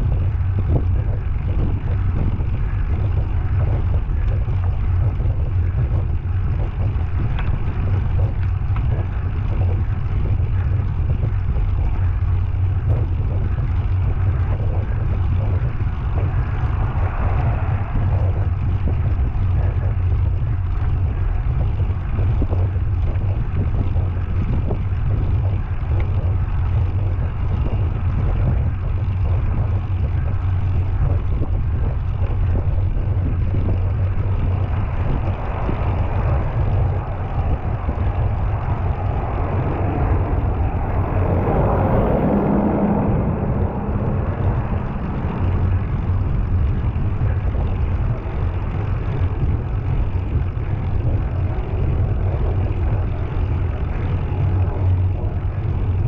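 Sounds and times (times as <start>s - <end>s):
steady low rumble: 0.0s - 56.0s.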